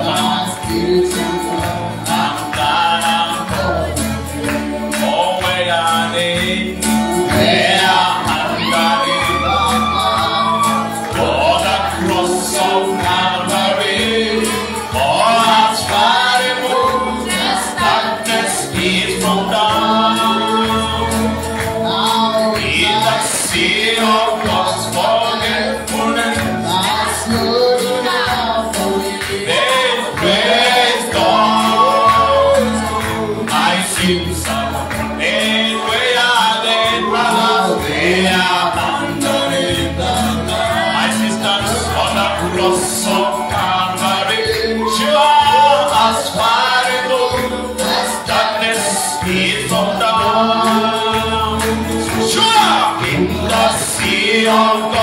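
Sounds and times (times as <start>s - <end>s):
sustained instrumental backing: 0.0s - 55.0s
voices singing: 0.0s - 55.0s.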